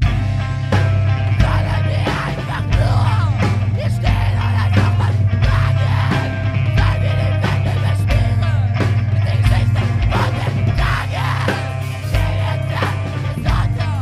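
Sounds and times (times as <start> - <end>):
bass guitar: 0.0 - 14.0
distorted electric guitars: 0.0 - 14.0
drums playing loud: 0.0 - 14.0.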